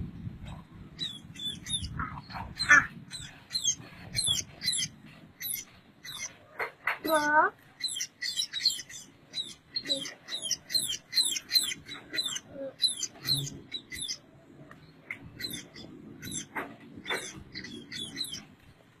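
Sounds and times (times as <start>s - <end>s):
bird chirping: 0.2s - 19.0s.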